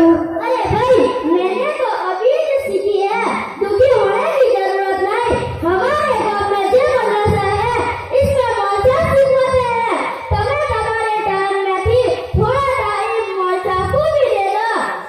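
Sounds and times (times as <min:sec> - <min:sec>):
boy singing through pa system: 0:00.0 - 0:14.9.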